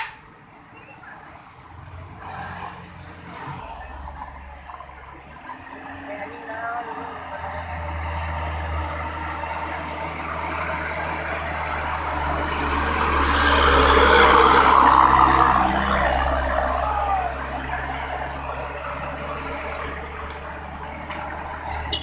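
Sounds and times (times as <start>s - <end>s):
road noise hiss: 0.0s - 22.0s
bus engine running: 3.7s - 22.0s.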